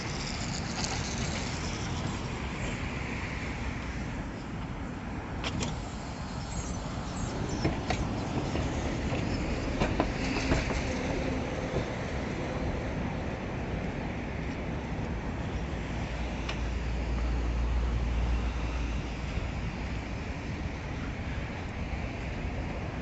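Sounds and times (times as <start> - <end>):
distant road traffic hum: 0.0 - 23.0.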